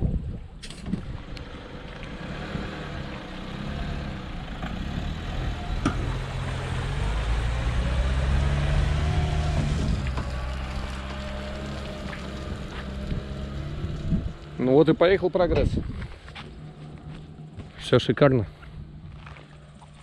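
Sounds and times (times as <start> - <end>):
car engine working hard: 0.8 - 20.0.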